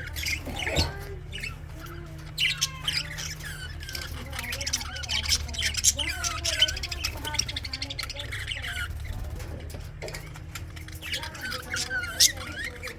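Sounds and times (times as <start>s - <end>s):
budgerigars chattering: 0.0s - 12.9s.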